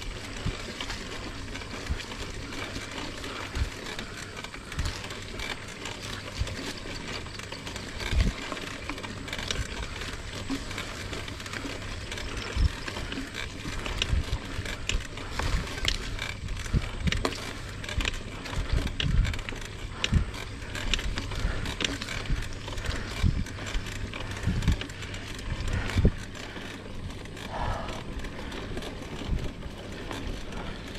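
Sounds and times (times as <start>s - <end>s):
bike knocks and rattles: 0.0s - 30.9s
bike tyre and trail noise: 0.0s - 30.9s.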